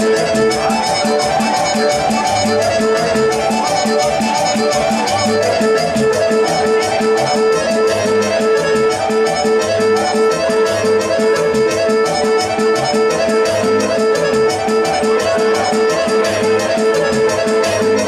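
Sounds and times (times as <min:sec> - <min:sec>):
accordion: 0:00.0 - 0:18.0
folk dance music: 0:00.0 - 0:18.0
violin: 0:00.0 - 0:18.0.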